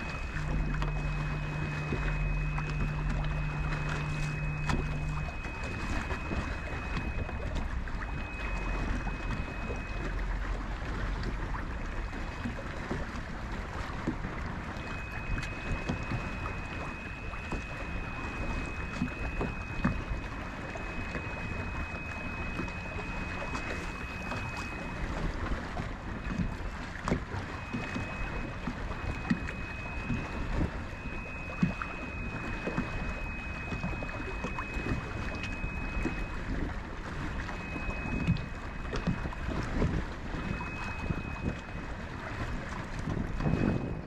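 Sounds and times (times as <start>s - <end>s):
thin high whine: 0.0s - 10.6s, 14.1s - 44.0s
water slapping boat hull: 0.0s - 44.0s.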